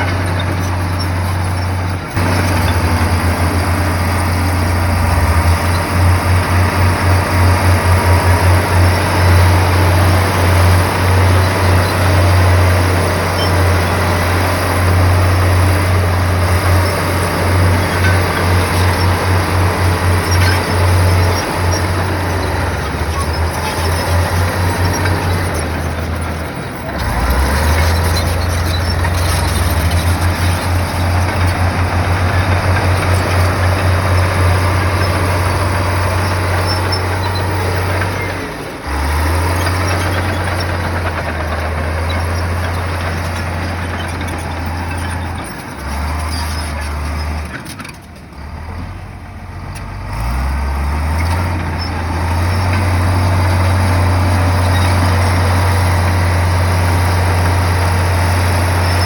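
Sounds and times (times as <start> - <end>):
bulldozer diesel engine droning: 0.0 - 59.0.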